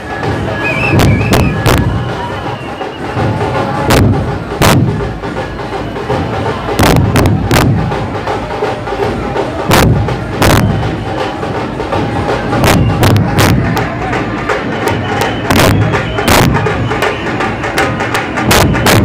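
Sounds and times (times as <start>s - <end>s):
dhol drums playing: 0.0s - 19.0s
sharp cracking drum strikes: 0.1s - 19.0s.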